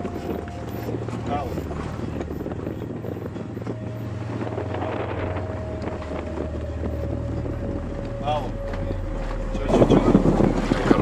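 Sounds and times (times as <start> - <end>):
steady low drone: 0.0 - 11.0
wind buffeting microphone: 0.0 - 11.0.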